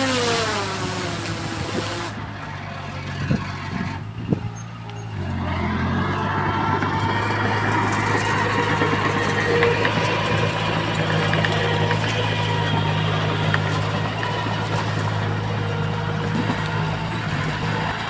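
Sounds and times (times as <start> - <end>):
diesel machinery engine running: 0.0 - 18.0.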